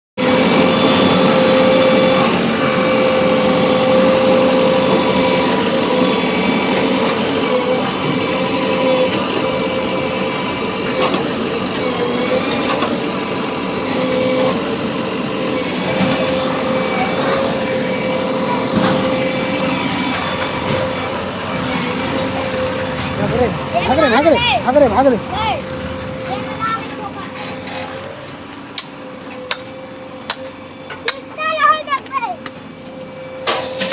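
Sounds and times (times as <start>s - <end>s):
high machine whine: 0.2s - 27.8s
diesel engine running: 0.4s - 27.8s.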